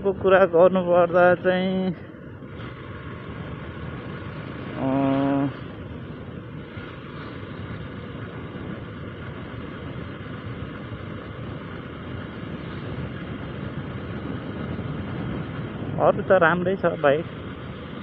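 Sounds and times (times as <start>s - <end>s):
motorcycle cruising: 0.0s - 18.0s
wind on microphone: 0.0s - 18.0s.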